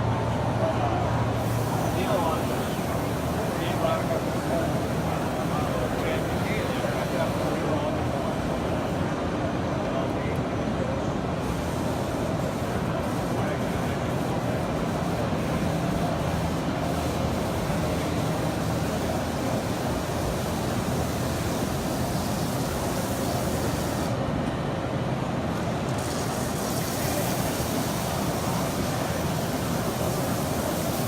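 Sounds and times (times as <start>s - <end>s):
busy exhibition hall din: 0.0s - 31.0s.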